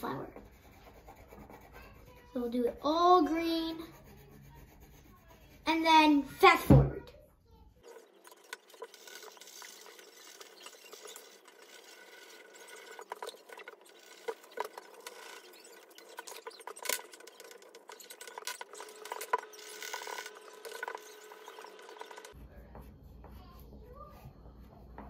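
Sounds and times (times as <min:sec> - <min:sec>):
crayons rubbing on paper: 0:00.0 - 0:06.3, 0:07.8 - 0:22.4.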